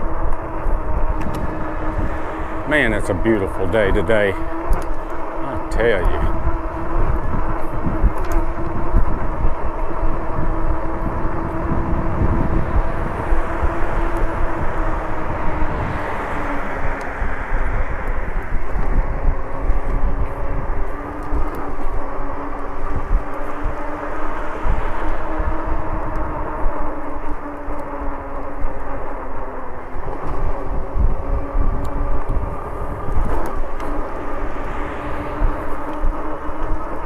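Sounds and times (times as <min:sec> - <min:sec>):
e-bike motor humming: 0:00.0 - 0:37.0
wind buffeting microphone: 0:00.0 - 0:37.0.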